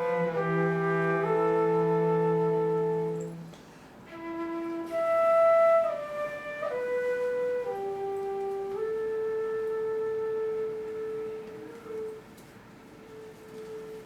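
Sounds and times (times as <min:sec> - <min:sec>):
slow flute-led ensemble music: 0:00.0 - 0:14.0.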